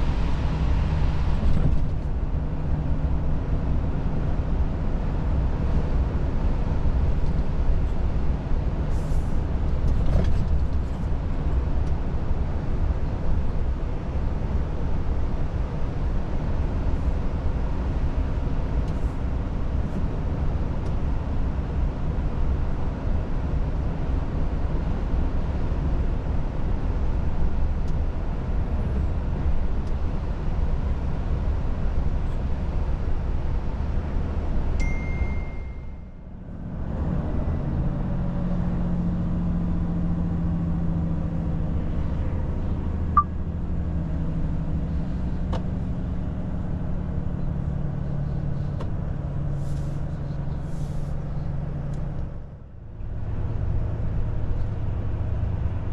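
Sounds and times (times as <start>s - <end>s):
truck diesel engine rumbling: 0.0s - 55.9s.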